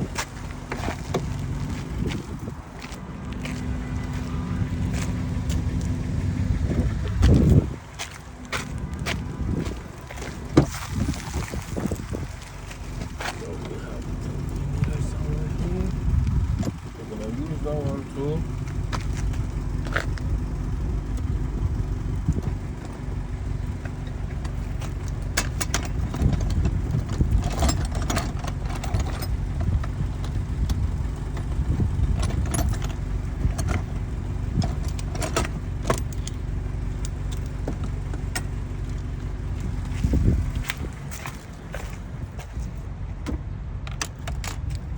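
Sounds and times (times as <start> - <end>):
steady low rumble: 0.0 - 44.9.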